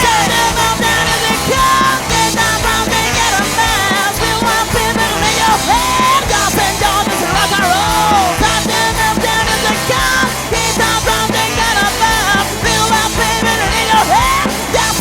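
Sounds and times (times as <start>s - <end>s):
rock song with vocals: 0.0s - 15.0s.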